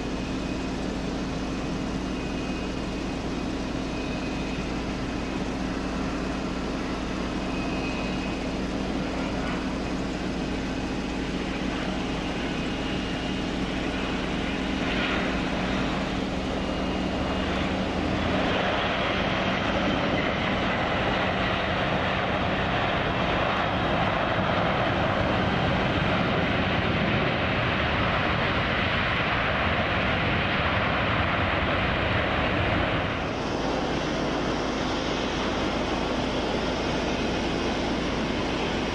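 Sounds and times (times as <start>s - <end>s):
jet engines humming and whining: 0.0s - 38.9s.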